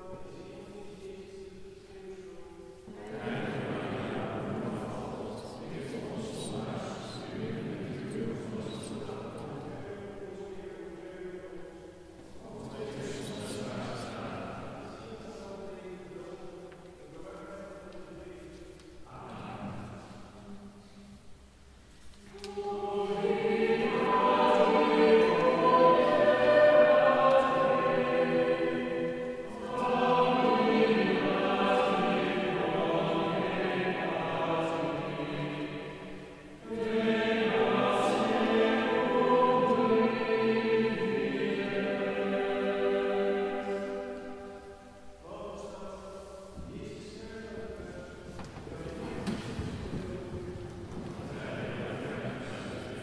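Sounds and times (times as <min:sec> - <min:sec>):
choir chanting a hymn: 0:00.0 - 0:53.0.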